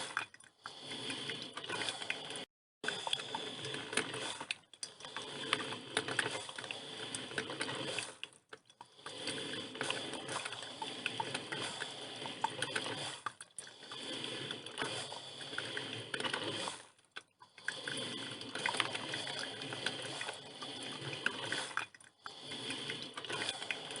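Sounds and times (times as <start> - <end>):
coffee machine hissing and gurgling: 0.0 - 24.0.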